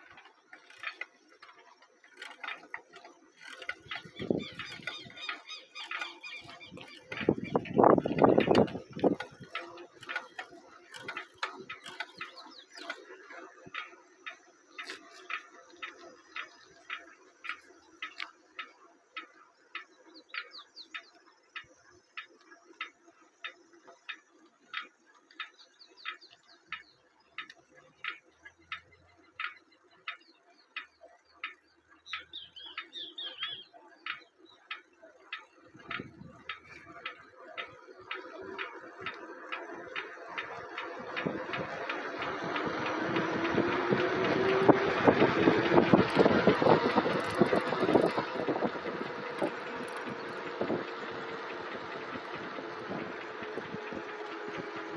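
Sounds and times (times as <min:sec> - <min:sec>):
bicycle clicking rhythmically: 0:00.0 - 0:54.9.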